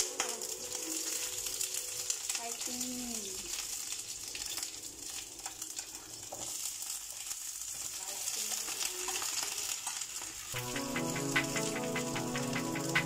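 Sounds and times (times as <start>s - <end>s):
hot oil sizzling in a pan: 0.0s - 13.0s.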